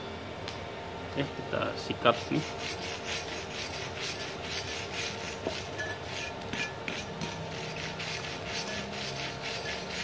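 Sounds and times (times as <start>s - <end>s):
wire brush scrubbing steel: 2.0s - 10.0s.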